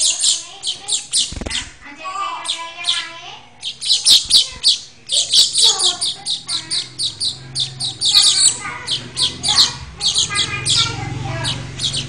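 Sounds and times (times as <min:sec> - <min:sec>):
weaver bird chirping: 0:00.0 - 0:12.0.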